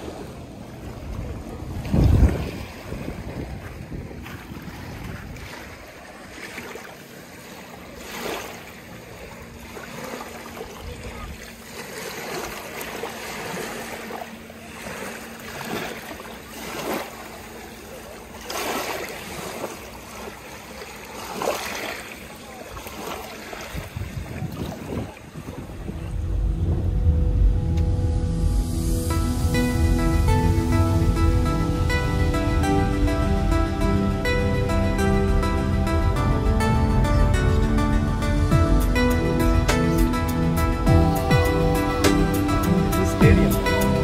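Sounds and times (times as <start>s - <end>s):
small waves washing against shore: 0.0s - 44.0s.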